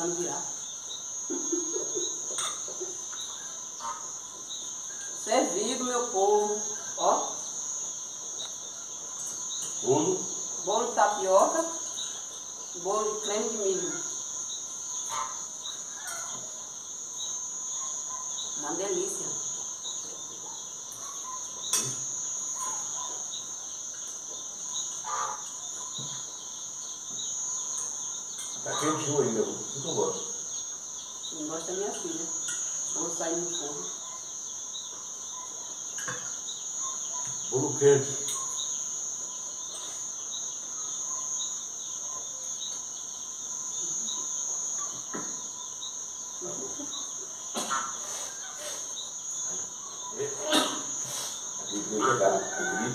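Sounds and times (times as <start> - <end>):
crickets chirring: 0.0 - 52.9.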